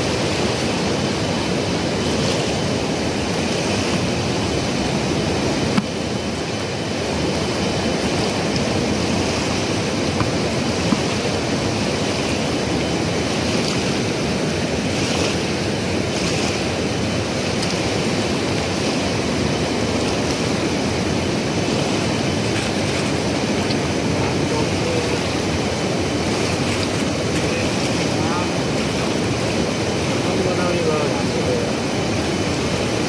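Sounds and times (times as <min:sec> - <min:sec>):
river rushing: 0:00.0 - 0:33.0.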